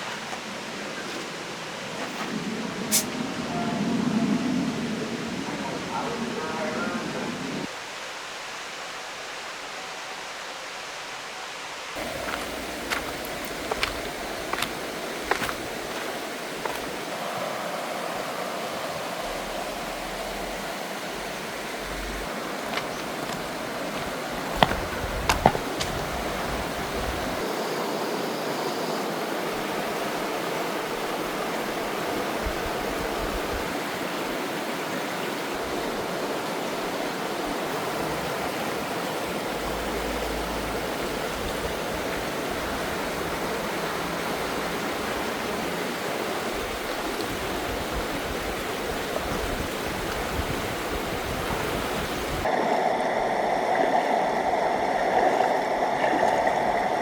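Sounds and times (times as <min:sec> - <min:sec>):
stream flowing over rocks: 0:04.7 - 0:57.0.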